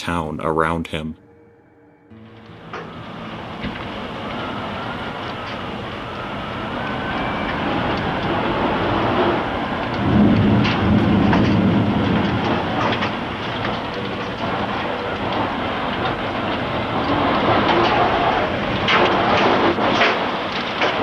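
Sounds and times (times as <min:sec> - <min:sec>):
tornado roar: 0:02.1 - 0:21.0
sharp cracks: 0:02.2 - 0:21.0.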